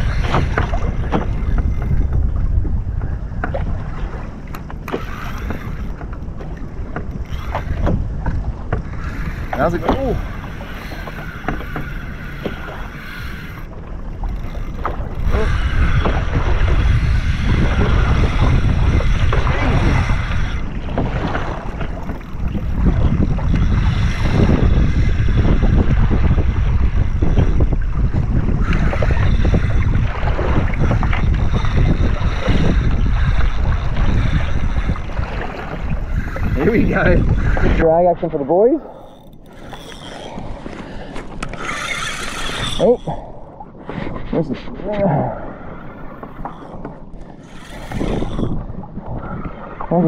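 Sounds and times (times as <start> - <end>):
low rumble of wind and water: 0.0 - 50.0
sea noise: 0.0 - 50.0
wind buffeting microphone: 0.0 - 50.0.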